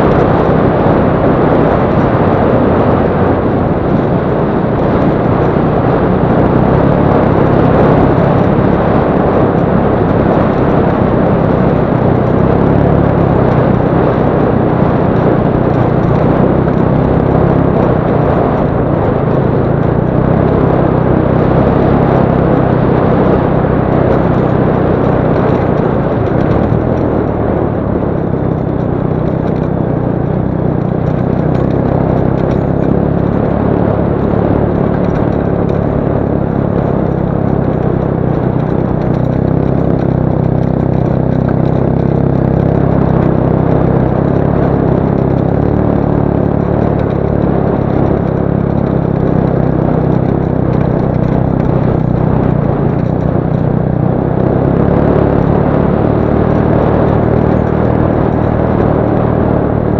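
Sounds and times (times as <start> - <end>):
motorcycle engine running: 0.0 - 59.9
wind and tyre noise: 0.0 - 59.9.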